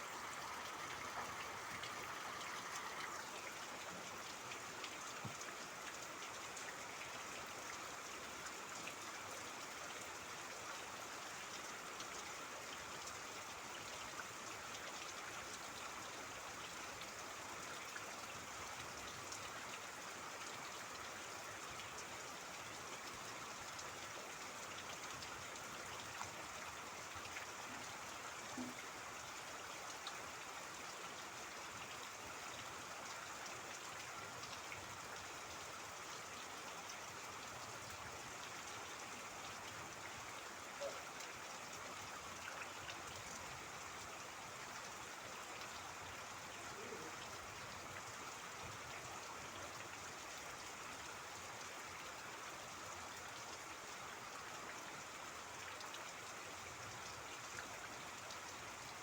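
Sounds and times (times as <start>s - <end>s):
steady rain falling: 0.0s - 59.0s
trickling water: 0.0s - 59.0s.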